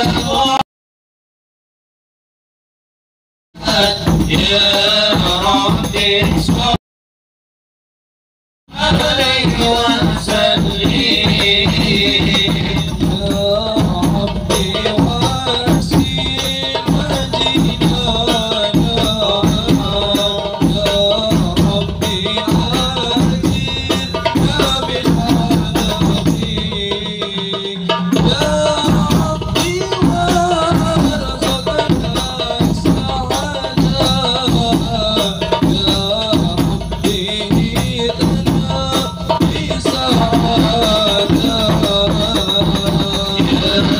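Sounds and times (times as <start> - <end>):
drum percussion: 0.0 - 0.6, 3.6 - 6.8, 8.7 - 43.9
men singing a chant: 0.0 - 0.6, 3.6 - 6.8, 8.7 - 43.9.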